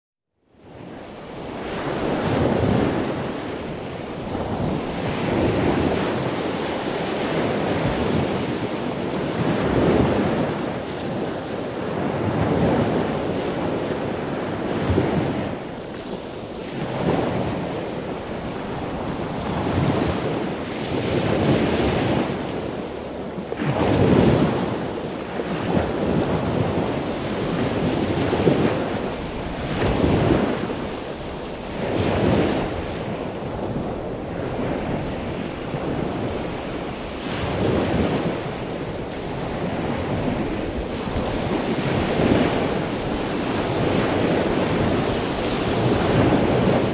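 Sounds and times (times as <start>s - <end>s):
ocean waves washing: 0.6s - 46.9s.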